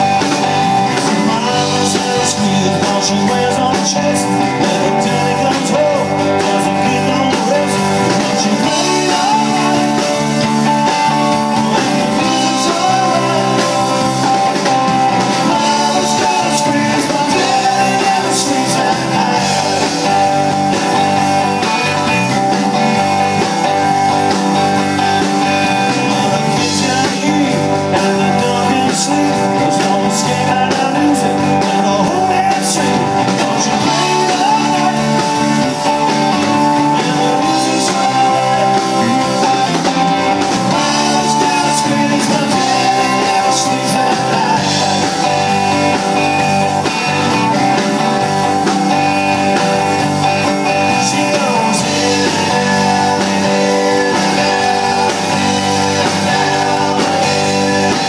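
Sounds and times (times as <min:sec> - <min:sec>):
singer singing into microphone: 0:00.0 - 0:23.9, 0:25.2 - 0:58.0
drum kit: 0:00.0 - 0:58.0
electric bass: 0:00.0 - 0:58.0
electric guitar: 0:00.0 - 0:58.0.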